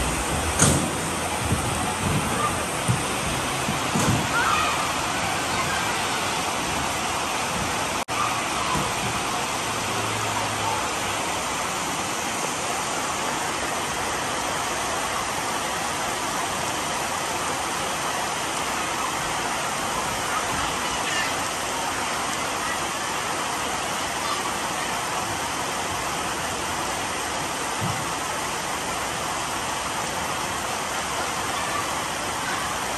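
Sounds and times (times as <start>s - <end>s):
steady even hiss: 0.0s - 32.9s.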